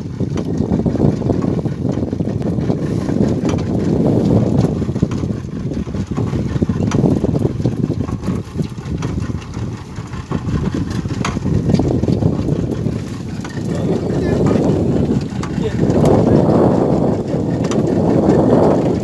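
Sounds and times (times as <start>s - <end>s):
outboard motor rumbling: 0.0s - 19.0s.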